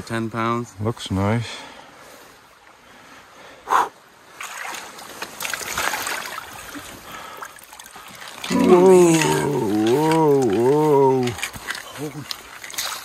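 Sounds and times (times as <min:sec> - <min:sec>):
water splashing and sloshing: 0:01.6 - 0:13.0.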